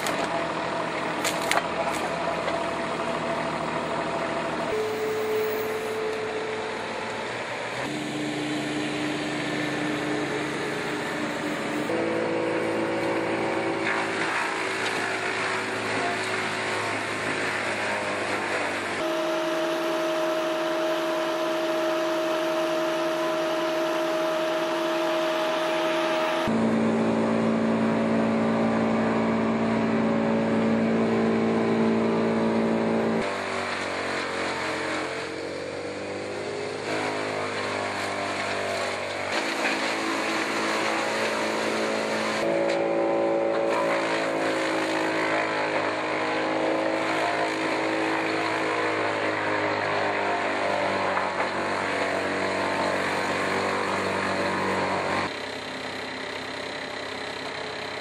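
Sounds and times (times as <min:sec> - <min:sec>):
diesel engines running: 0:00.0 - 0:58.0
wood chipper chipping brush: 0:00.0 - 0:58.0.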